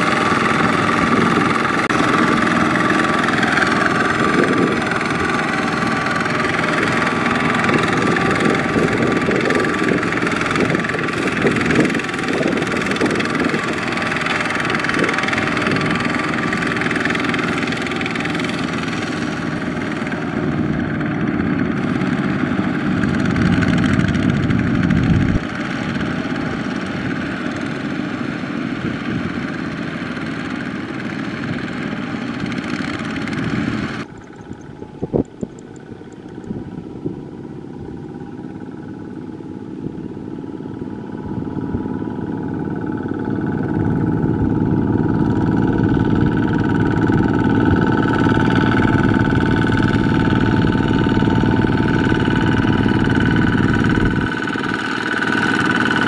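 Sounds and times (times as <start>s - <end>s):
diesel tractor engines running: 0.0s - 56.0s.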